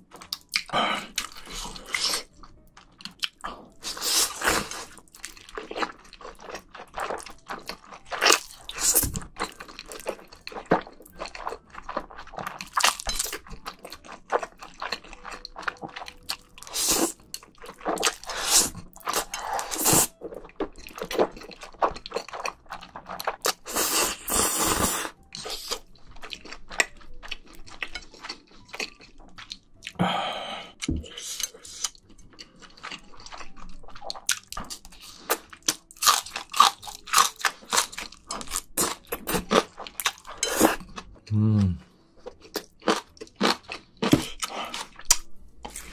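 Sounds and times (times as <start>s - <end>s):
slurping and chewing noodles: 0.0s - 45.9s.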